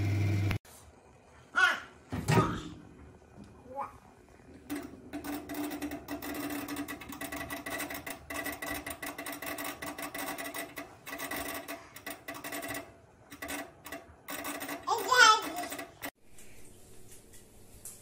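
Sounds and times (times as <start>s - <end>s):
microwave oven buzzing: 0.0s - 16.2s.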